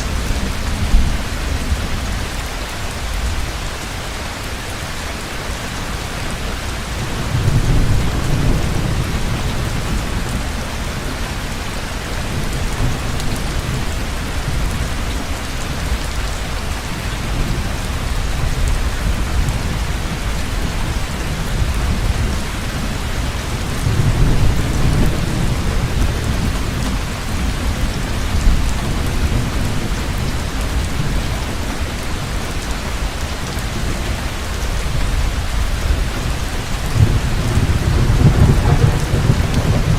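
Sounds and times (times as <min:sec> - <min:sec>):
heavy rain: 0:00.0 - 0:39.9
low rolling thunder: 0:06.3 - 0:39.9.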